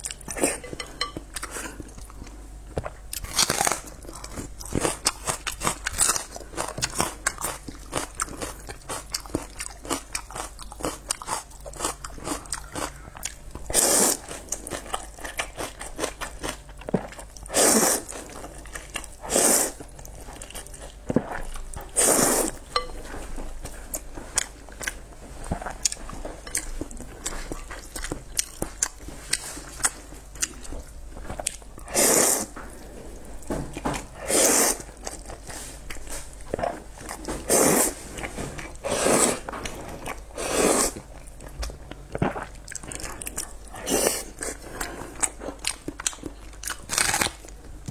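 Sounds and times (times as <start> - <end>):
person chewing: 0.0 - 32.9, 34.2 - 47.9.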